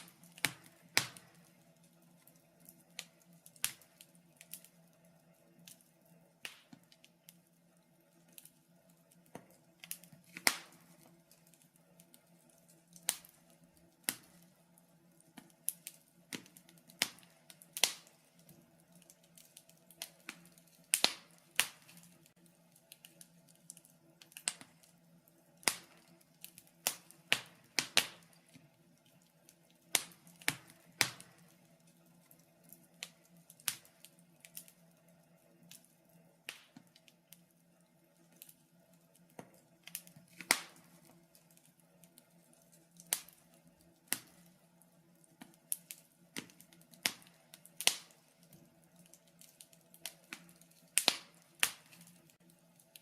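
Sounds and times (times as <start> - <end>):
faint steady hum: 0.0 - 53.0
wood fire crackling and popping: 0.0 - 53.0.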